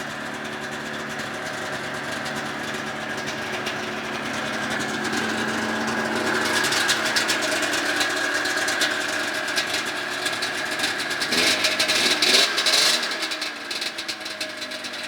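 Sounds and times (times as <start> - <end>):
snowmobile engine idling: 0.0 - 15.0.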